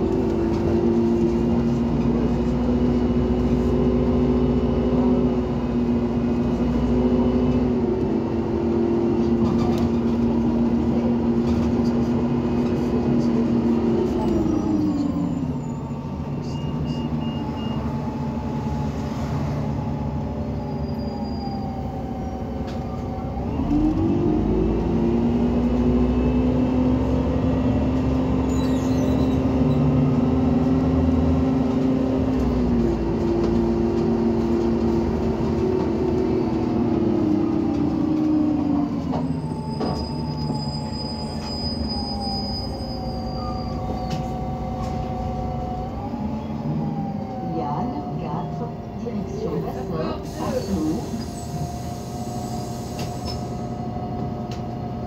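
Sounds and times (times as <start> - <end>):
bus engine and transmission: 0.0 - 55.0.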